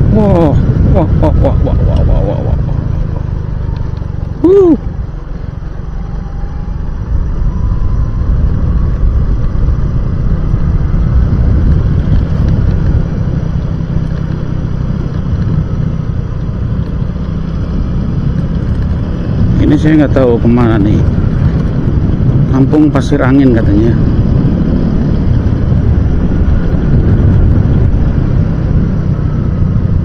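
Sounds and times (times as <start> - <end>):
motorcycle engine rumble: 0.0 - 30.0.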